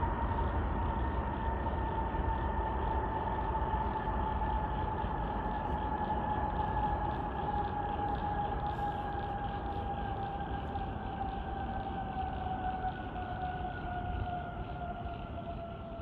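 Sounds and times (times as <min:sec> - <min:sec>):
distant jet engines rumbling and whining: 0:00.0 - 0:16.0.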